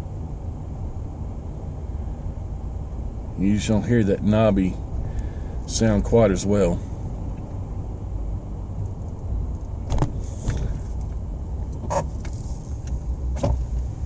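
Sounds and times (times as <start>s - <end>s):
tire road rumble: 0.0s - 14.0s.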